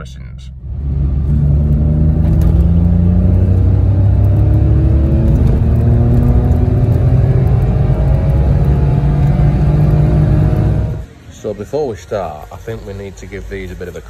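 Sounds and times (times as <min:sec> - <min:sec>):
car engine accelerating: 0:00.5 - 0:14.0.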